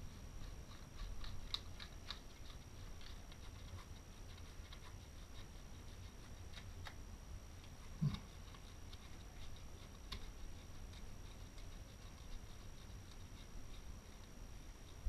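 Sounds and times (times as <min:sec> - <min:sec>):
steady low hum: 0:00.0 - 0:15.0
fingers clicking and scraping tool: 0:00.4 - 0:07.0, 0:07.6 - 0:15.0.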